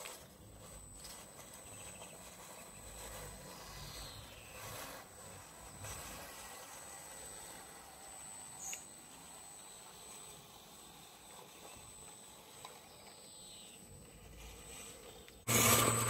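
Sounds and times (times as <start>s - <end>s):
toy truck electric motor running: 0.0s - 16.0s.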